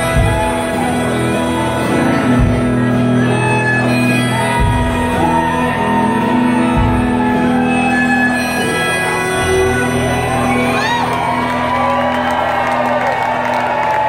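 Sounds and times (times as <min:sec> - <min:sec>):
bass guitar: 0:00.0 - 0:14.0
drums: 0:00.0 - 0:14.0
electric guitar: 0:00.0 - 0:14.0.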